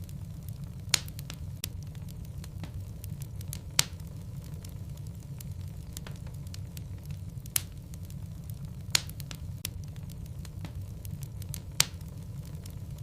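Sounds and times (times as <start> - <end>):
low rumble of flame: 0.0 - 13.0
wood crackling and popping: 0.0 - 13.0.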